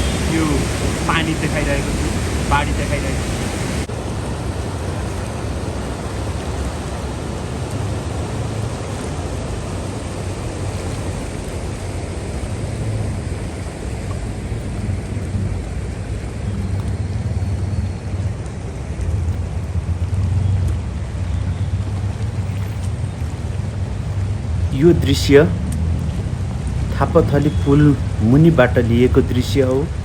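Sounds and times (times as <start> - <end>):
deep low rumble: 0.0 - 28.4
floodwater rushing: 0.0 - 30.0.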